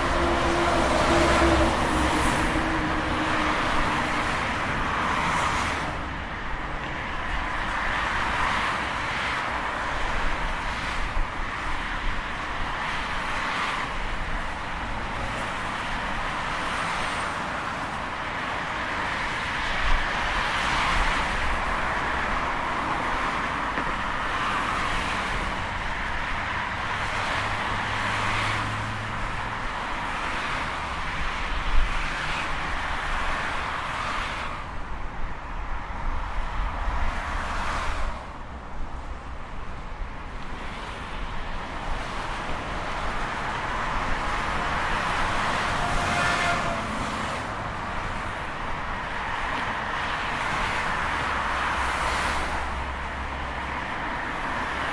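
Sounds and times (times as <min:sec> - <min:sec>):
motorway traffic: 0:00.0 - 0:54.9.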